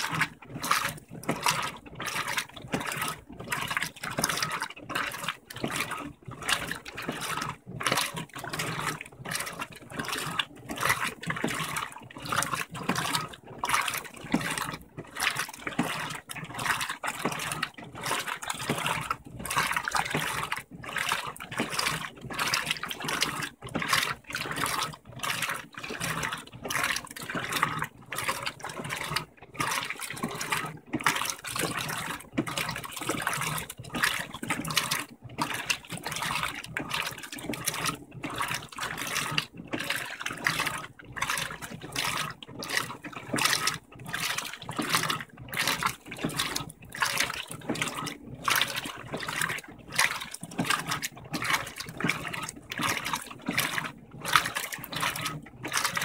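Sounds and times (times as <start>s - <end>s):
washing machine water sloshing: 0.0s - 56.0s.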